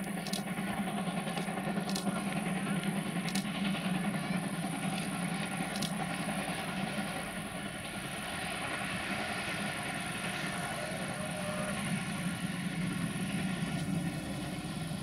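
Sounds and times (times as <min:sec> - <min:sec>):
steam hissing: 0:00.0 - 0:15.0
steam train rolling past: 0:00.0 - 0:15.0.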